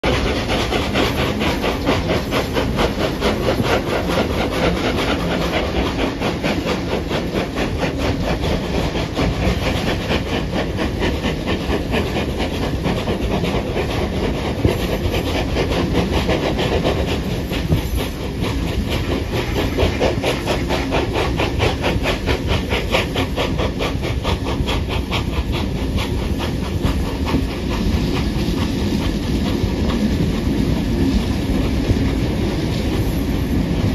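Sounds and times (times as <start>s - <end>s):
steam hissing: 0.0s - 33.9s
steam locomotive exhaust chuffs: 0.0s - 33.9s
train wheels clattering on rails: 0.0s - 33.9s.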